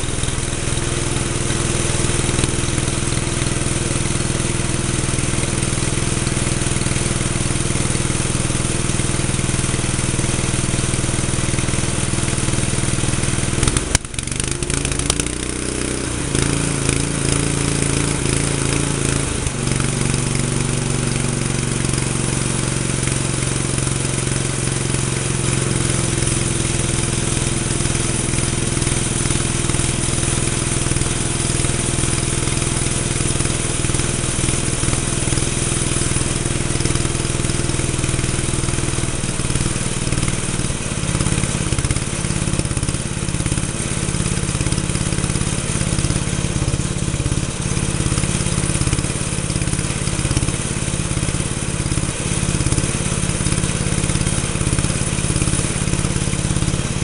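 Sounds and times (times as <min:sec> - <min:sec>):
single-cylinder engine running: 0:00.0 - 0:57.0.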